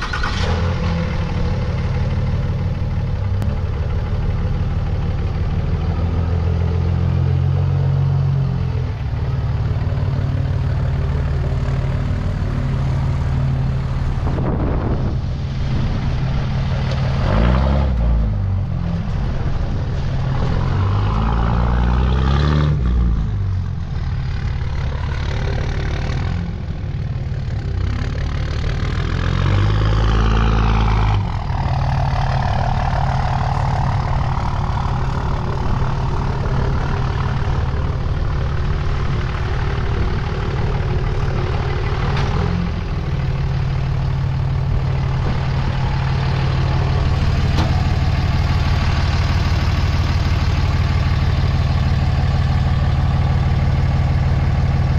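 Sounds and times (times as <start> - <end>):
truck engine idling and revving: 0.0 - 54.9
tyres on loose dirt: 0.0 - 54.9.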